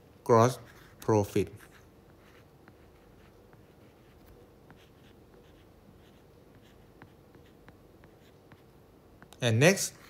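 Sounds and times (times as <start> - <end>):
low room hiss: 0.0 - 10.0.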